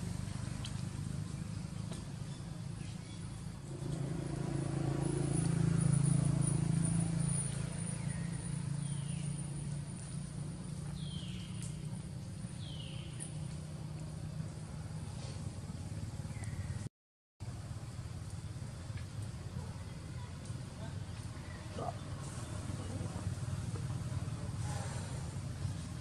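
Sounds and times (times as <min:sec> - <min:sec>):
passing motor vehicle hum: 0:00.0 - 0:26.0.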